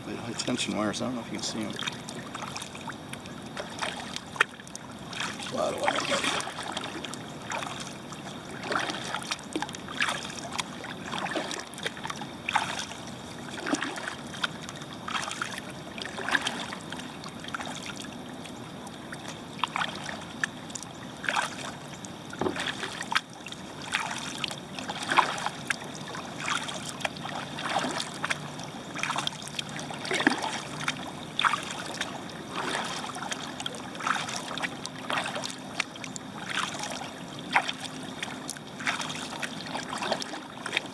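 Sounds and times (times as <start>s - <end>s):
paddle splashing in water: 0.0s - 40.9s
water trickling: 0.0s - 40.9s.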